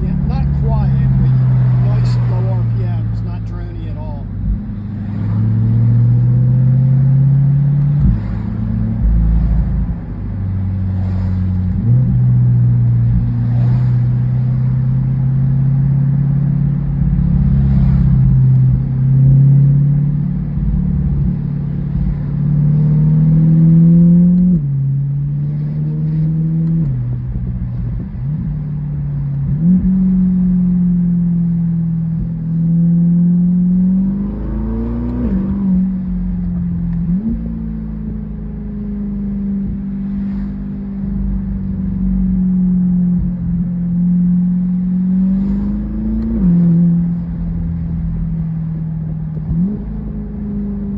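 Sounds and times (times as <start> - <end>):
sports car engine revving: 0.0 - 50.9.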